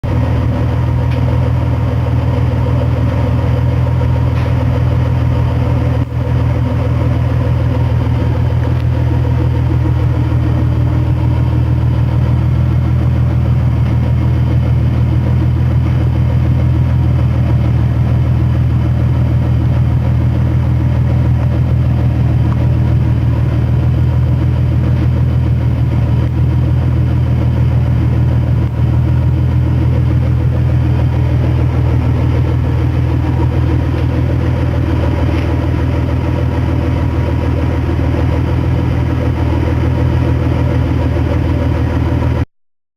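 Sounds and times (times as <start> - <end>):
car engine idling: 0.0 - 42.5.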